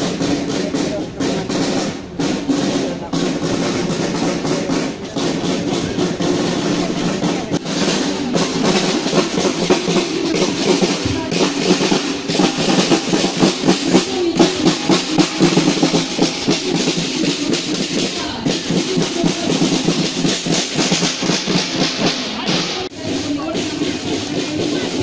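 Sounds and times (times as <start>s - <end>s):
snare drums marching beat: 0.0s - 25.0s.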